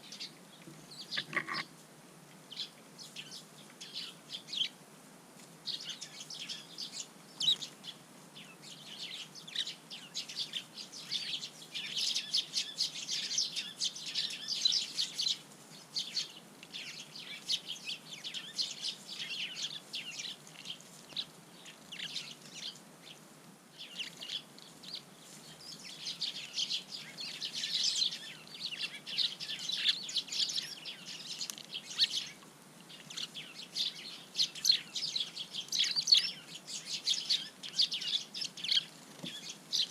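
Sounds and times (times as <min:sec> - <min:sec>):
sparrows chirping: 0:00.0 - 0:01.7, 0:02.5 - 0:04.8, 0:05.7 - 0:23.2, 0:23.8 - 0:39.9.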